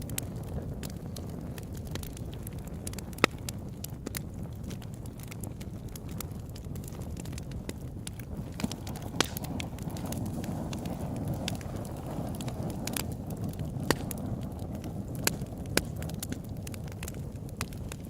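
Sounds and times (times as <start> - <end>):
campfire crackles and pops: 0.0 - 18.0
low rumble of flames: 0.0 - 18.0.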